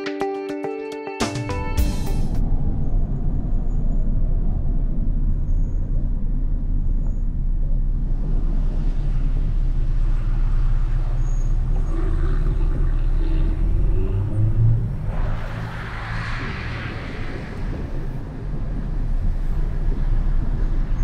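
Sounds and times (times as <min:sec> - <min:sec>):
road noise: 0:01.8 - 0:21.0
car engine rumble: 0:01.9 - 0:21.0.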